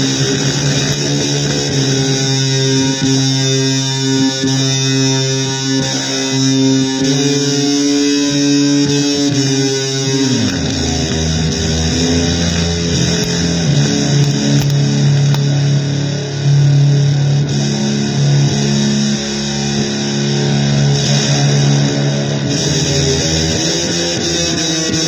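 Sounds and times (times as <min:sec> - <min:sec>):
distorted electric guitar: 0:00.0 - 0:25.0.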